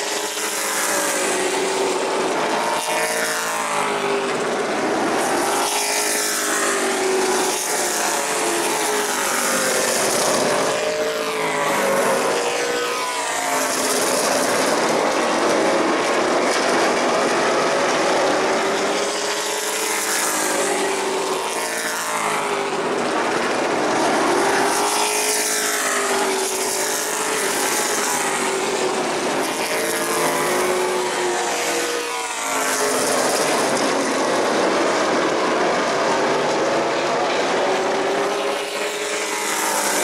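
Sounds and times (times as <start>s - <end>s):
stock car engines racing: 0.0s - 40.0s.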